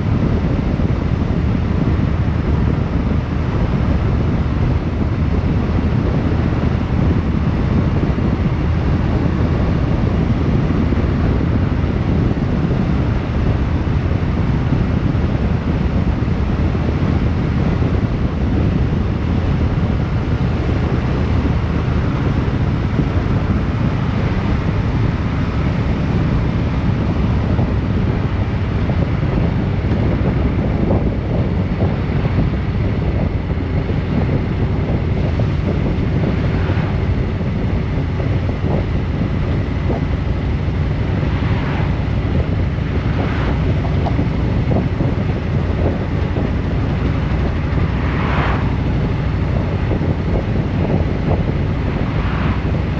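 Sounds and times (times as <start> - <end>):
vehicle engine and road noise: 0.0 - 52.9
wind rushing over microphone: 0.0 - 52.9.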